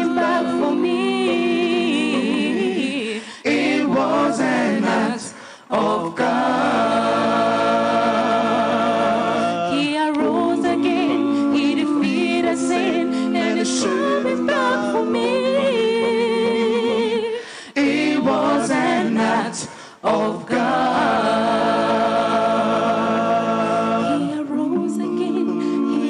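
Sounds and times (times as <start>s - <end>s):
women singing gospel in harmony: 0.0s - 26.0s.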